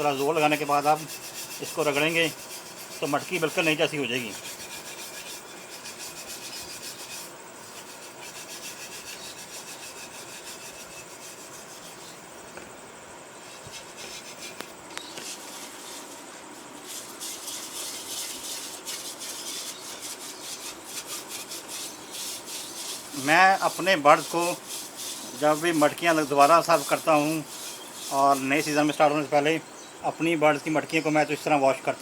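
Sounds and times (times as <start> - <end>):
wire pad scrubbing clay pot: 0.0 - 12.2, 13.4 - 29.4.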